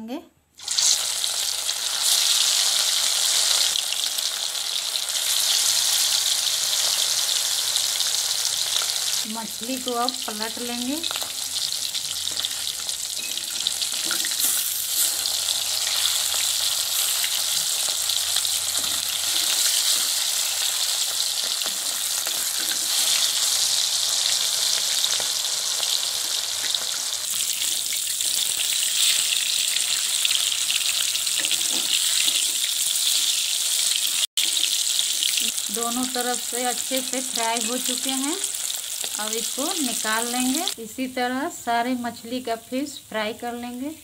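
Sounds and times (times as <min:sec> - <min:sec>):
fish sizzling in hot oil: 0:00.6 - 0:40.8.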